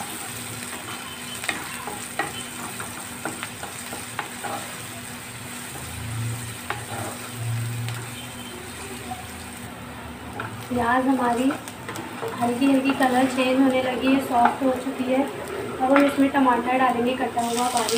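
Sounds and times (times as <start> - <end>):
onions sizzling in hot oil: 0.0 - 17.9.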